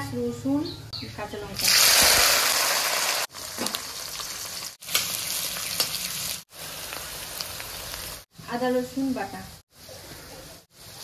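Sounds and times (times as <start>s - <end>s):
hot oil sizzling: 1.6s - 11.0s.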